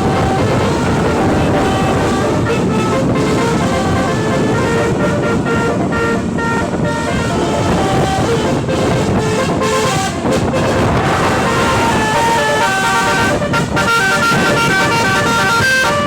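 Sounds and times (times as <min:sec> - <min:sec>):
bus musical horn tune: 0:00.0 - 0:16.0
loud road noise: 0:00.0 - 0:16.0.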